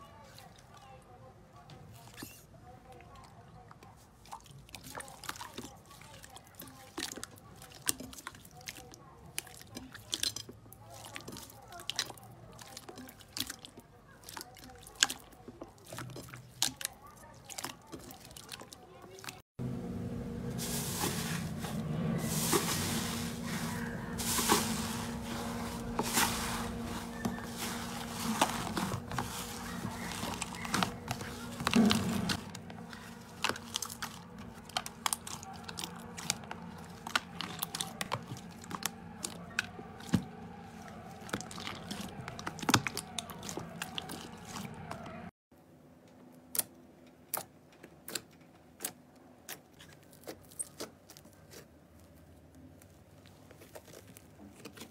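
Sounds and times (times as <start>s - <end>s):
hands squishing slime: 3.0s - 19.4s, 22.3s - 45.3s, 47.3s - 54.9s.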